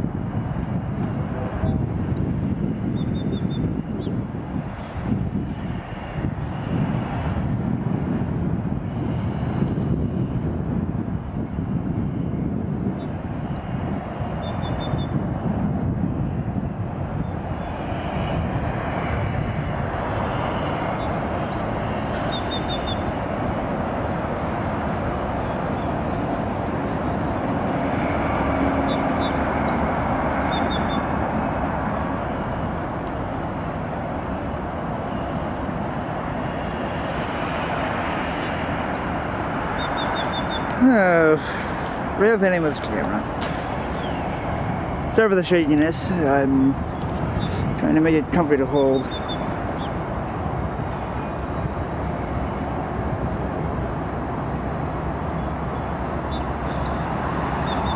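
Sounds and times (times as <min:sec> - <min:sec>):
freight cars rumbling: 0:00.0 - 0:57.9.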